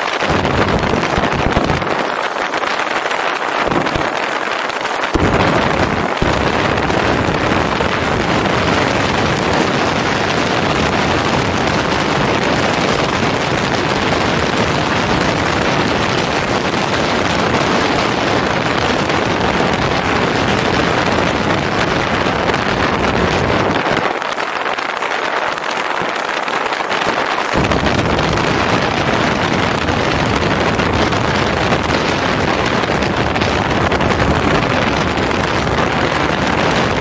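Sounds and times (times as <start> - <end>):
wind rush on microphone: 0.0 - 37.0.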